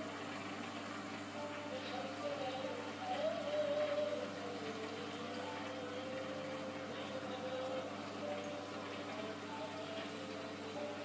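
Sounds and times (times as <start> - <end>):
aquarium pump hum: 0.0 - 11.0.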